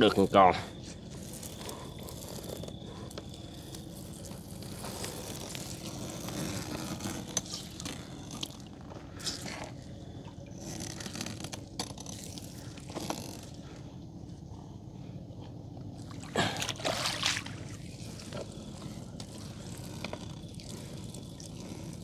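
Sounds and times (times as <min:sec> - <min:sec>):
wet net scraping along hull: 0:00.2 - 0:14.2, 0:15.9 - 0:22.0.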